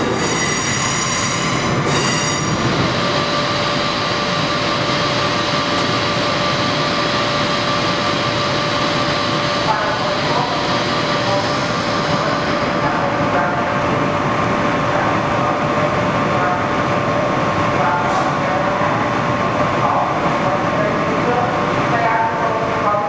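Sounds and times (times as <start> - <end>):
trains rumbling and hissing: 0.0 - 23.0.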